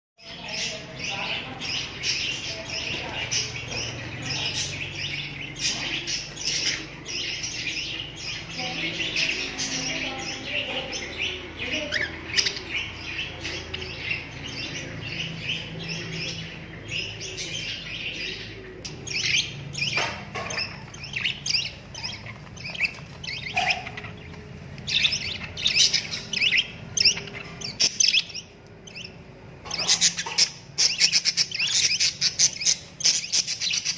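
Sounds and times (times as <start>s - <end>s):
parrots chirping and twittering: 0.2s - 33.9s.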